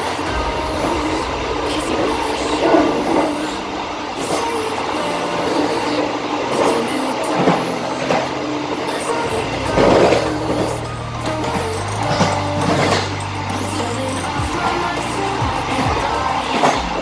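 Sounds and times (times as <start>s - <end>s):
train clattering: 0.0s - 17.0s
train wheels rumbling on rails: 0.0s - 17.0s.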